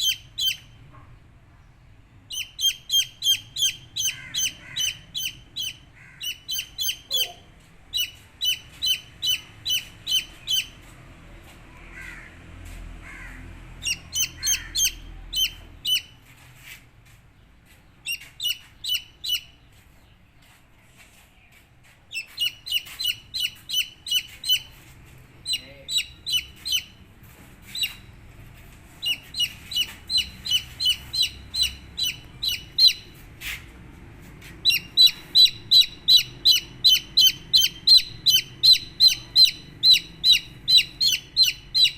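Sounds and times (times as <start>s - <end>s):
baby chicks peeping: 0.0s - 1.4s, 2.1s - 41.9s.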